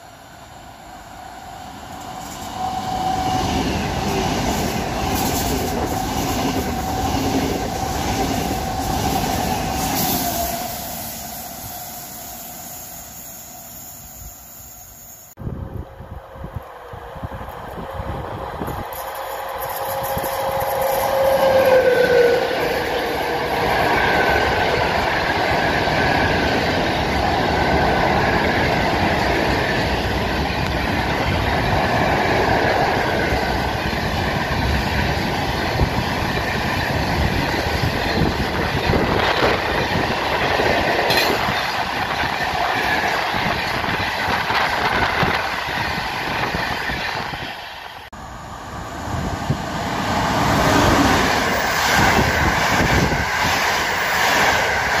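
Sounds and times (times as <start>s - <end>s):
another train approaching: 0.0s - 55.0s
freight train rolling past: 0.0s - 55.0s.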